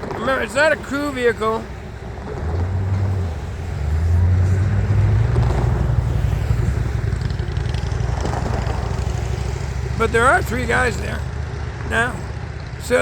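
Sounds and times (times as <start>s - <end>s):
diesel locomotive drone: 0.0s - 13.0s.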